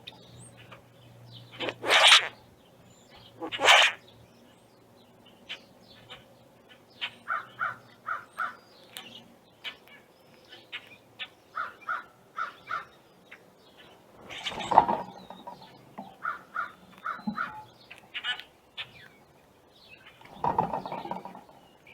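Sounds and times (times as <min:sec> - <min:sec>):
birds calling: 0:00.0 - 0:21.9.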